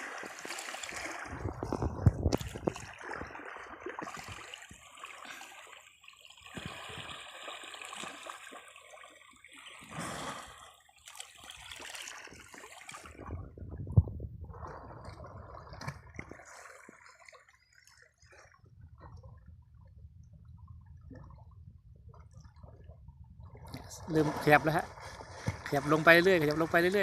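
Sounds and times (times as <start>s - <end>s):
water splashing and gurgling: 0.0s - 27.0s.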